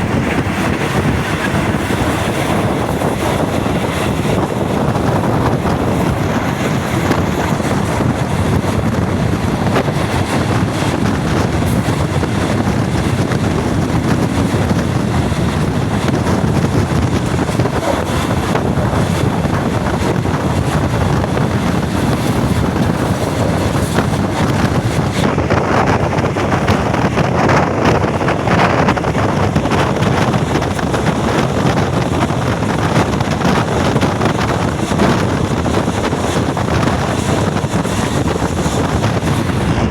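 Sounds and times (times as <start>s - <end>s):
train rumbling: 0.0s - 39.9s
wind buffeting microphone: 0.0s - 39.9s.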